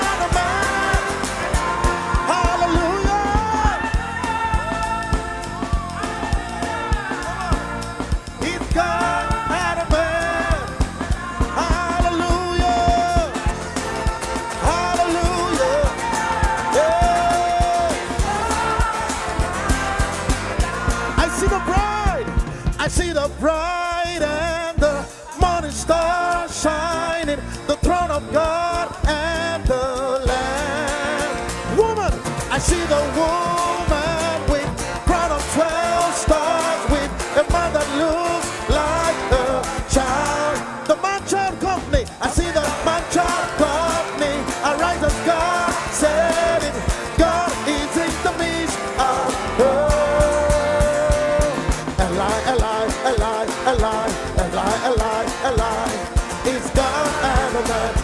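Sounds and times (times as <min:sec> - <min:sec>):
acoustic guitar: 0:00.0 - 0:58.0
backing vocalists: 0:00.0 - 0:58.0
band with drum hits: 0:00.0 - 0:58.0
man singing: 0:00.0 - 0:58.0.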